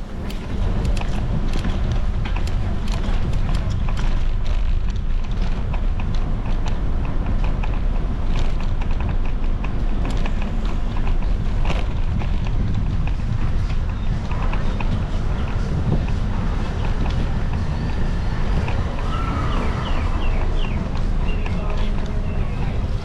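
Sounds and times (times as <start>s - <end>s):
bicycle rattling: 0.0s - 23.0s
wind buffeting microphone: 0.0s - 23.0s.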